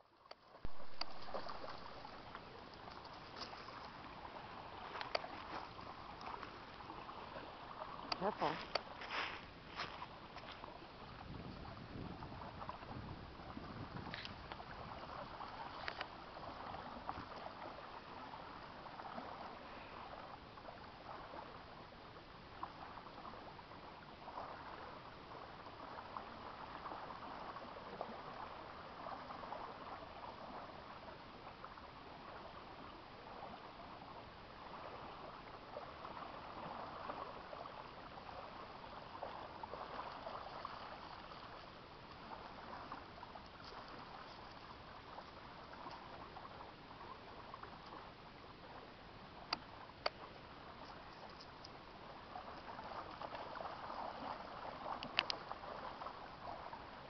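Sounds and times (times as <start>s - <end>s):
small water splashes: 0.0s - 57.0s
lake waves lapping on sand: 0.1s - 57.0s.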